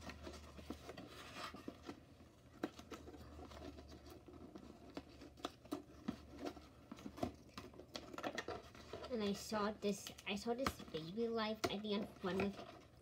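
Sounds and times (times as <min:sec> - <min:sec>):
hands handling cardboard box: 0:00.0 - 0:13.0.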